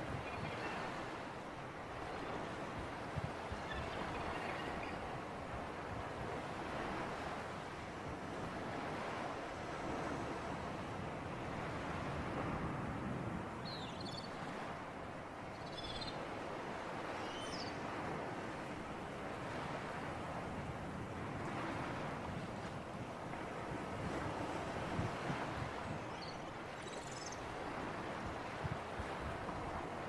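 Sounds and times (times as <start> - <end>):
wind: 0.0 - 30.0.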